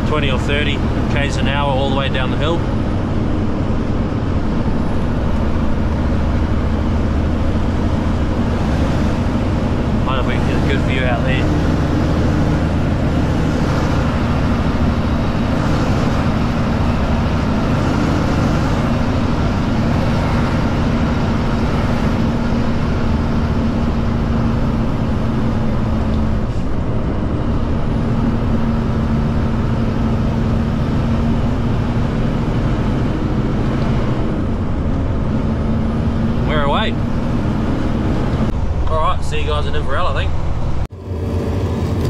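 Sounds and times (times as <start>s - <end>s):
diesel truck engine running: 0.0s - 42.0s.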